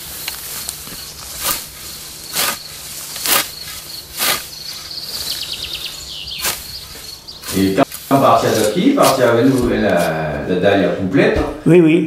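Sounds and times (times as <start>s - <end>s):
scythe swishing through grass: 0.0s - 10.2s
insects chirping: 0.0s - 10.8s.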